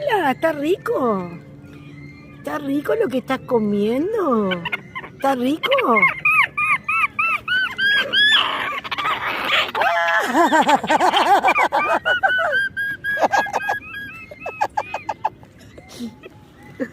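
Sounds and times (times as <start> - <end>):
chirping animal calls: 0.0 - 16.9.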